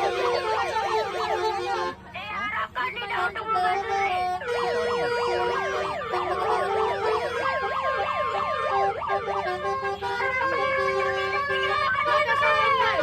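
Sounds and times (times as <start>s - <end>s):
musical horn playing: 0.0s - 2.0s, 3.8s - 13.0s.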